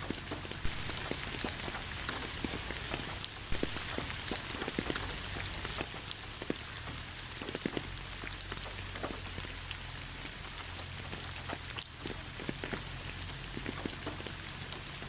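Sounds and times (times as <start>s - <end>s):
rain falling: 0.0s - 15.0s
raindrops pattering on surface: 0.0s - 15.0s.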